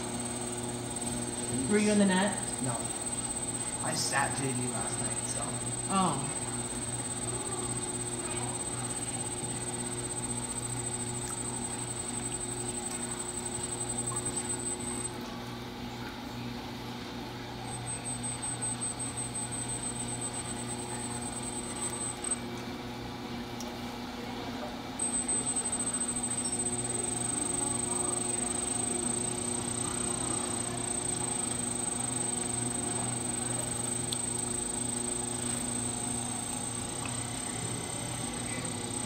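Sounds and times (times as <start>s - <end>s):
thin high whine: 0.0s - 15.2s, 17.7s - 22.4s, 25.0s - 39.0s
potter's wheel motor hum: 0.0s - 15.3s, 17.7s - 22.4s, 25.0s - 39.0s.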